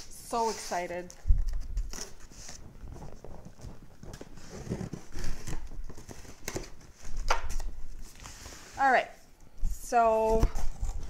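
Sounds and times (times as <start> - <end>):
cardboard scraping and rustling: 0.0 - 9.0.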